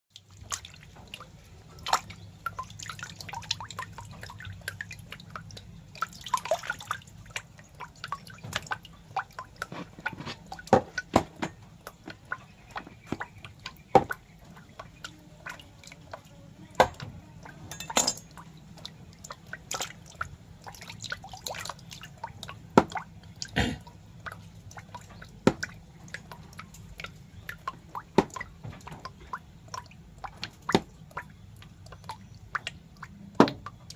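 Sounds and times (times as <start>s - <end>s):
low steady hum: 0.1s - 33.9s
wet clicks and drips: 0.1s - 33.9s.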